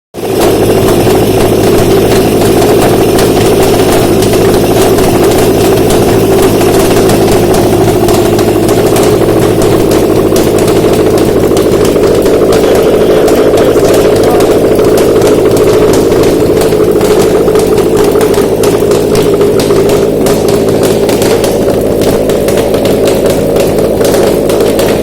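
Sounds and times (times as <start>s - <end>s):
car engine idling: 0.1s - 25.0s
rapid engine ticking: 0.1s - 25.0s.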